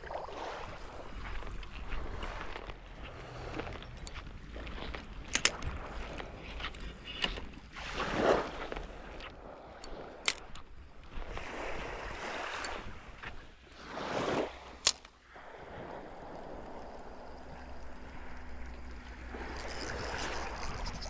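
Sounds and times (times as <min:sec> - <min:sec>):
small waves washing: 0:00.0 - 0:06.8, 0:07.6 - 0:21.0.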